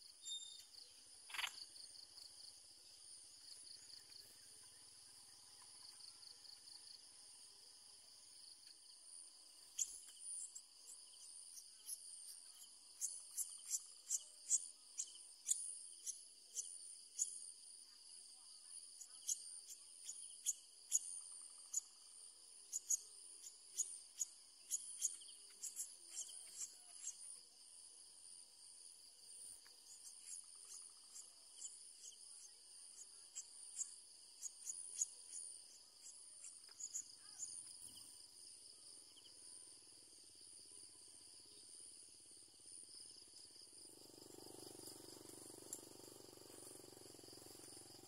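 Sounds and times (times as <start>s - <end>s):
insects trilling: 0.0s - 17.6s, 18.4s - 48.0s.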